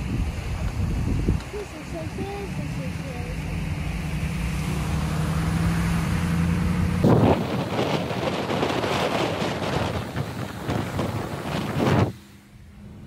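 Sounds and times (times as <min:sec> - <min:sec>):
car engine hum: 0:00.0 - 0:13.0
wind: 0:00.0 - 0:13.0.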